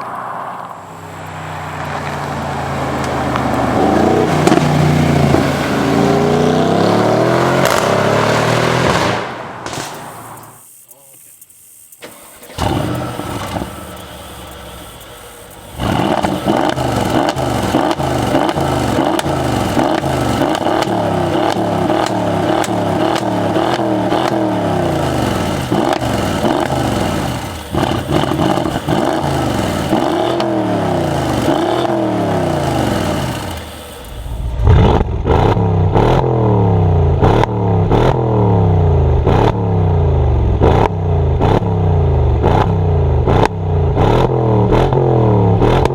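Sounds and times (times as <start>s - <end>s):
car engine revving: 0.0s - 10.6s, 12.0s - 45.9s
exhaust crackles and pops: 0.0s - 45.9s.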